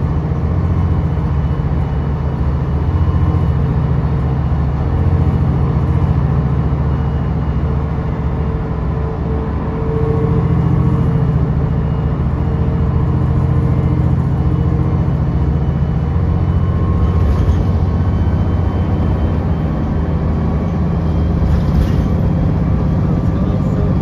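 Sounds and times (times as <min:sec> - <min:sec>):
bus engine droning: 0:00.0 - 0:24.0
tyre and road noise: 0:00.0 - 0:24.0.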